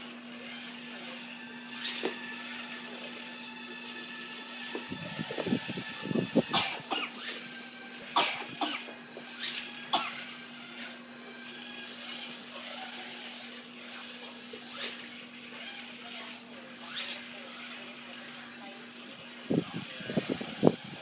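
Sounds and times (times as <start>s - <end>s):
toy car electric motor whirring: 0.0s - 21.0s.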